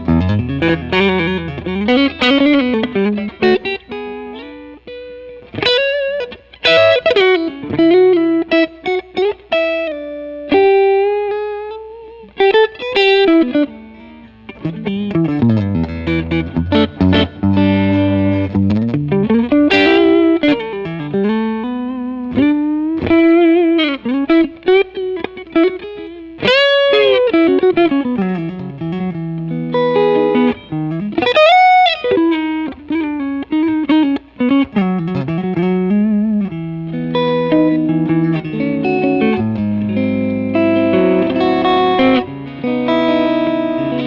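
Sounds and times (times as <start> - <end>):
clean electric guitar playing: 0.0 - 44.0.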